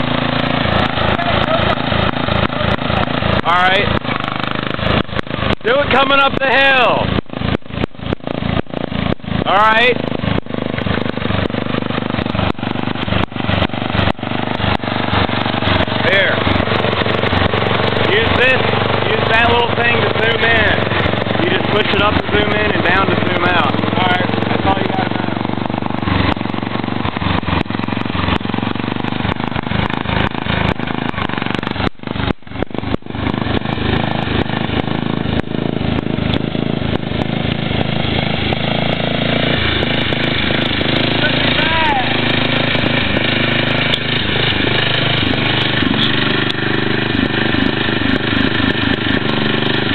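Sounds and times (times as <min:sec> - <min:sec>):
lawn tractor engine running loud: 0:00.0 - 0:49.9.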